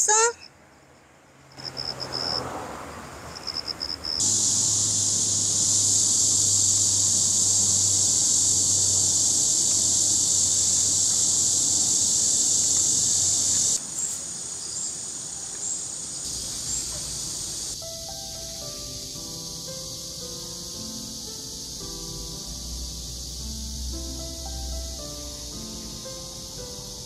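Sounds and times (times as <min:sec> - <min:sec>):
cicada chorus buzzing: 0:00.0 - 0:00.5, 0:01.4 - 0:27.0
faint insect buzz: 0:00.0 - 0:00.5, 0:03.4 - 0:27.0.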